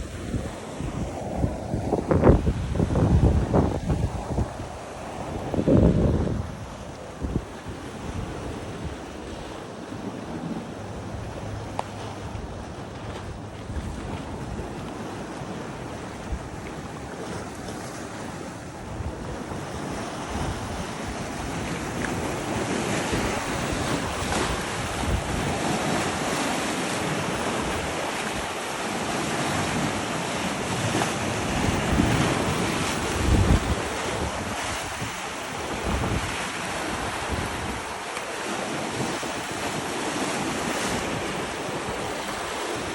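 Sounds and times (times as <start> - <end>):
ocean surf washing in: 0.0 - 42.9
wind buffeting microphone: 0.0 - 42.9.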